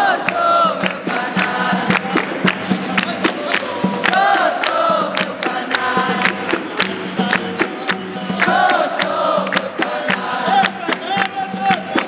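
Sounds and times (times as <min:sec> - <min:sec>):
group singing a chant: 0:00.0 - 0:12.0
rhythmic handclaps: 0:00.0 - 0:12.0.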